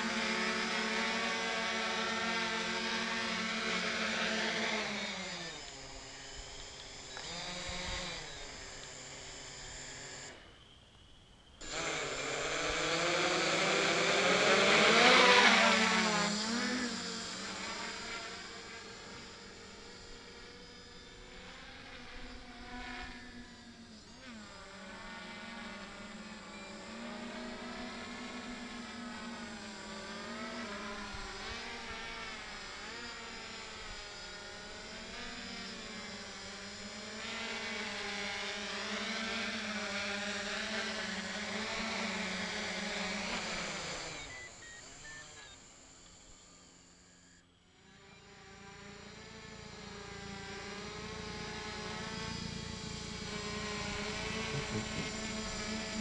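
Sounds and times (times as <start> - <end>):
drone motors and propellers whirring: 0.0 - 56.0.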